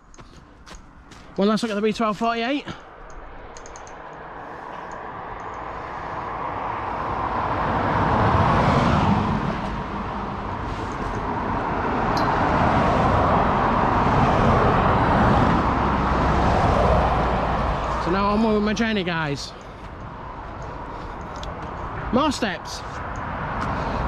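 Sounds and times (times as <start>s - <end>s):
vehicles passing by: 0.0s - 24.0s.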